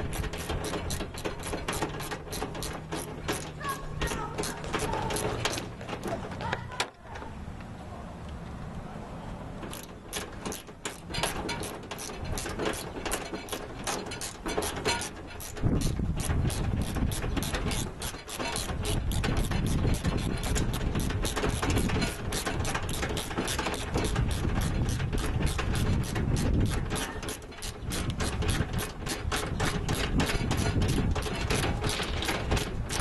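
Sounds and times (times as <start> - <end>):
ratchet wrench clicking: 0.0 - 5.7, 9.7 - 33.0
low rumble of handling noise: 0.0 - 33.0.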